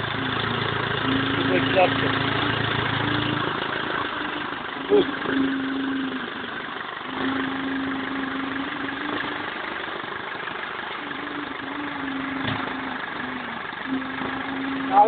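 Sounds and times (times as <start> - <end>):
diesel engine idling: 0.0 - 15.0
faint tone: 1.1 - 9.8, 11.0 - 15.0.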